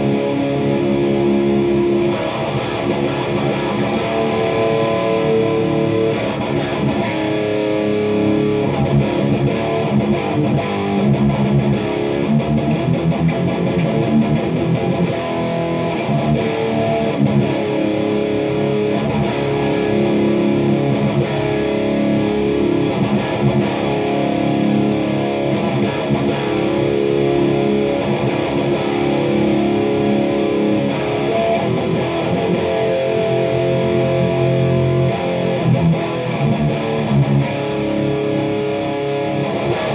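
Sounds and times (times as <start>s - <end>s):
electric guitar riffs and chords: 0.0s - 39.9s.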